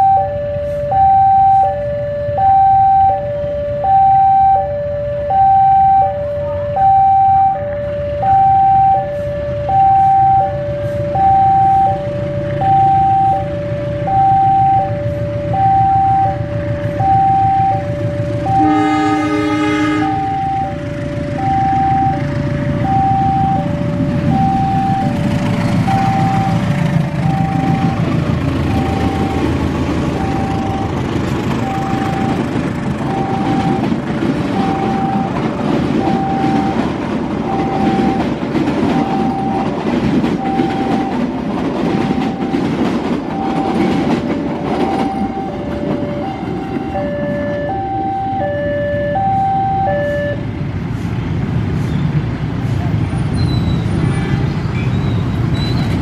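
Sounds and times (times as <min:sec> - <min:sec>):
level-crossing alarm ding-dong: 0:00.0 - 0:19.2, 0:20.0 - 0:28.1, 0:28.7 - 0:29.6, 0:30.2 - 0:33.9, 0:34.5 - 0:41.3, 0:41.9 - 0:50.5
train rumbling past: 0:00.0 - 0:56.0.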